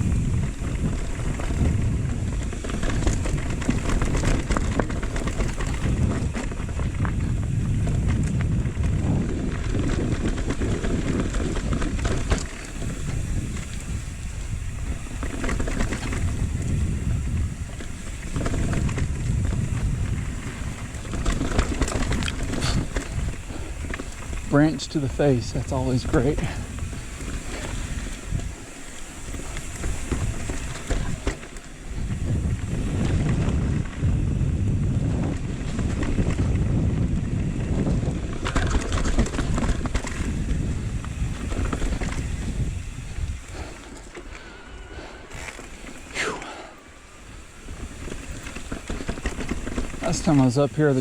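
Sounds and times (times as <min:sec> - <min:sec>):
bike rattles and clatters: 0:00.0 - 0:51.0
bike tyre and trail noise: 0:00.0 - 0:51.0
wind rumbling on microphone: 0:00.0 - 0:51.0.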